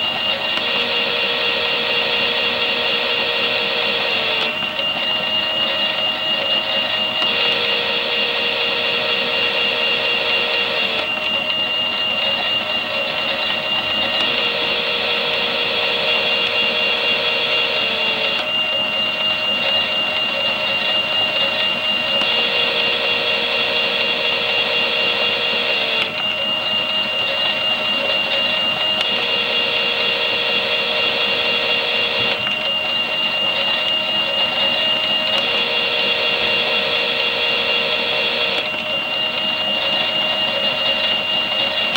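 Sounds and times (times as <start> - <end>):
small electric motor whining: 0.0 - 41.9.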